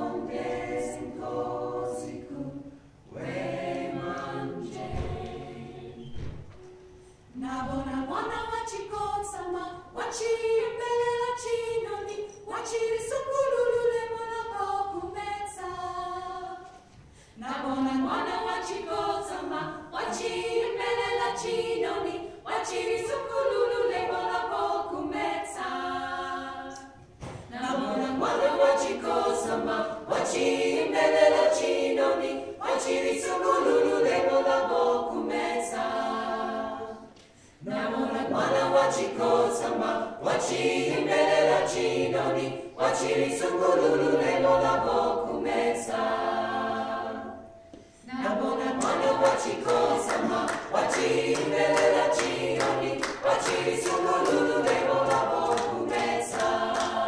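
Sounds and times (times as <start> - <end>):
a cappella choir singing: 0.0 - 57.0.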